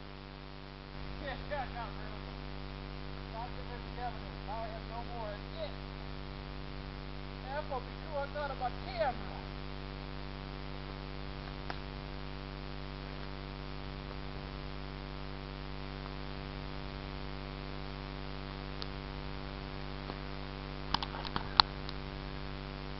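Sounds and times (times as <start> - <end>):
light hiss: 0.0 - 14.9, 18.6 - 22.7
electrical hum: 0.0 - 22.9.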